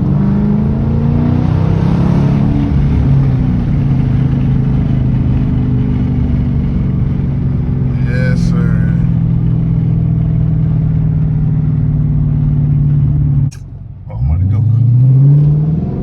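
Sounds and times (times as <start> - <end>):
car engine accelerating and cruising: 0.0 - 16.0.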